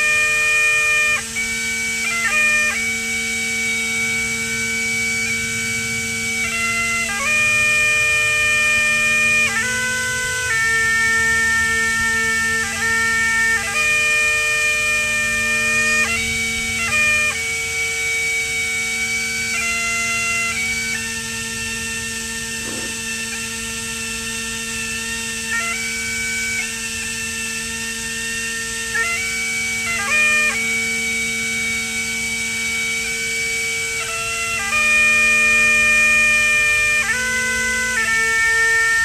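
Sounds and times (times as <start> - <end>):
bagpipes playing slow melody: 0.0 - 39.0.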